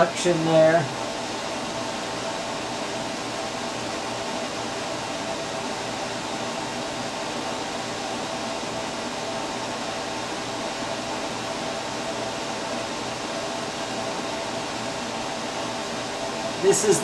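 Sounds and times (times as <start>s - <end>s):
fan-like hum and hiss: 0.0s - 17.0s.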